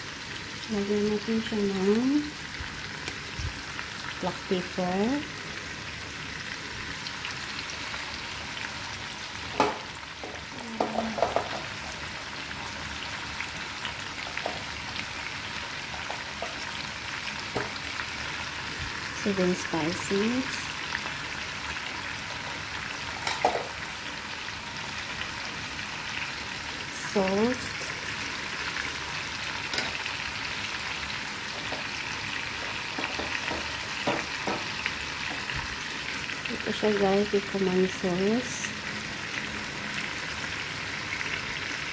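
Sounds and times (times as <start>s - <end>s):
food sizzling in hot pan: 0.0s - 41.9s.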